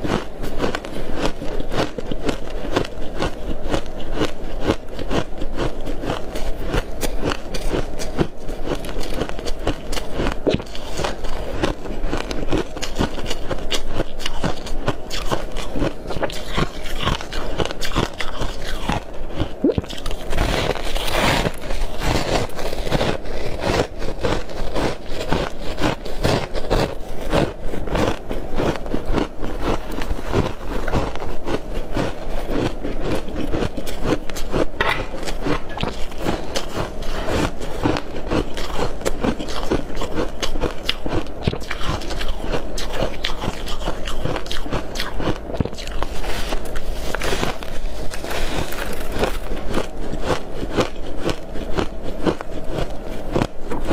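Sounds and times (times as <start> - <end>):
chewing frost crunching: 0.0 - 53.9.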